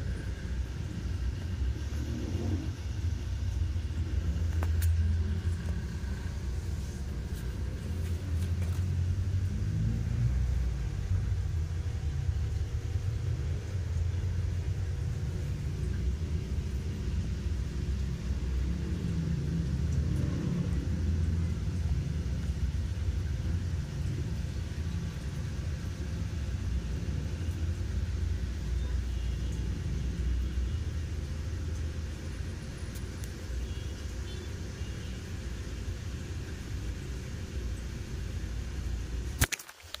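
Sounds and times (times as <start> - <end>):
low background rumble: 0.0 - 39.4.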